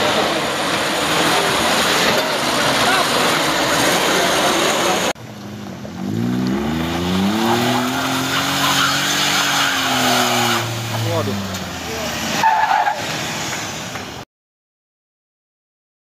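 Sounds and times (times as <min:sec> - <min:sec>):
car engine revving: 0:00.0 - 0:14.2
truck passing close: 0:00.0 - 0:14.2.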